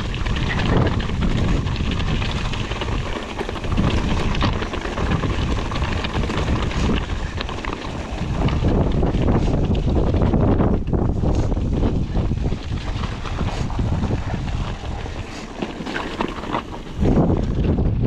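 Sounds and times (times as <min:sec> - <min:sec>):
bike clicks and rattles: 0:00.0 - 0:18.0
wind buffeting microphone: 0:00.0 - 0:18.0.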